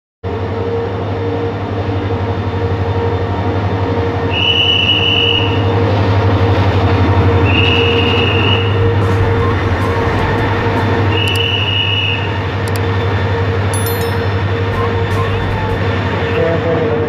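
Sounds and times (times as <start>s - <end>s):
locomotive engine drone: 0.3s - 17.0s.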